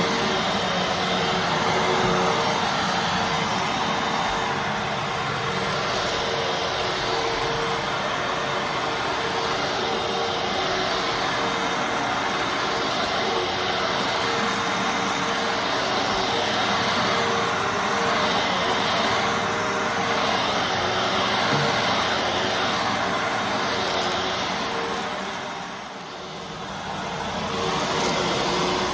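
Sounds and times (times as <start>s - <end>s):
vacuum cleaner running: 0.0s - 28.9s.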